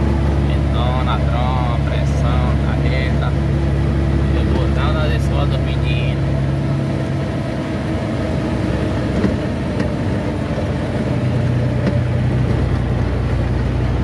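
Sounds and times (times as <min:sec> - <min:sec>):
road noise: 0:00.0 - 0:14.0
truck engine hum: 0:00.0 - 0:14.0.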